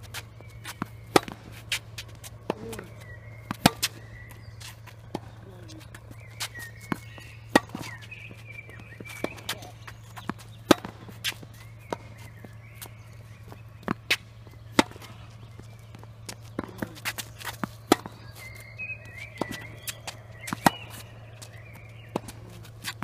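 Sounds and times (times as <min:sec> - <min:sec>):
ball bouncing on hard court: 0:00.0 - 0:23.0
tennis ball struck by rackets: 0:00.0 - 0:23.0.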